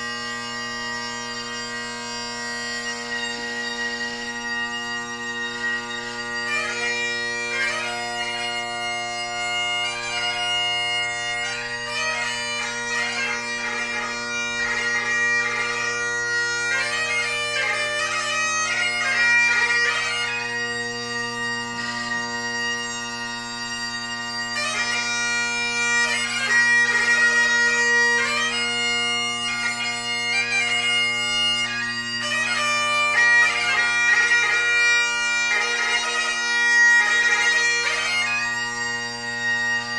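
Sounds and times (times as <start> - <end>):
bagpipe playing: 0.0 - 39.9.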